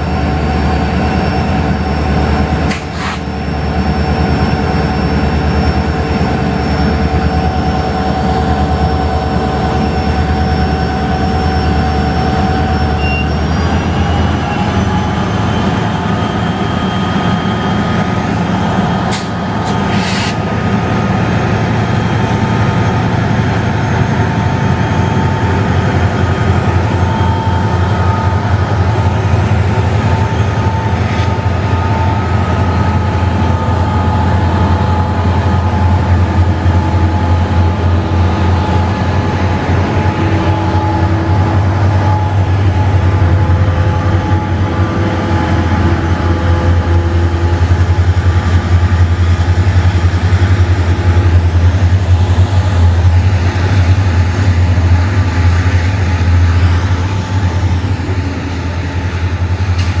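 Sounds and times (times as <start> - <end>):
diesel locomotive engine throbbing: 0.0 - 60.0
high engine whine: 0.0 - 60.0.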